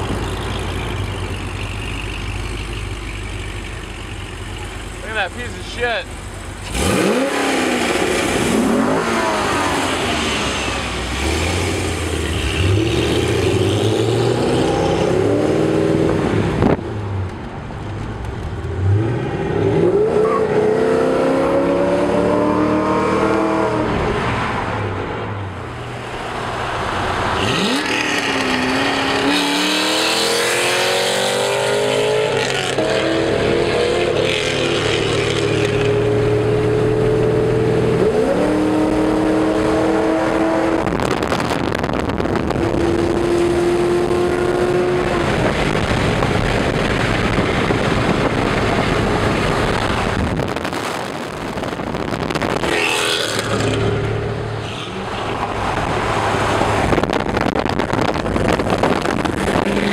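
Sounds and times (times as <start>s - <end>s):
car engine accelerating: 0.0s - 25.1s, 26.1s - 59.9s.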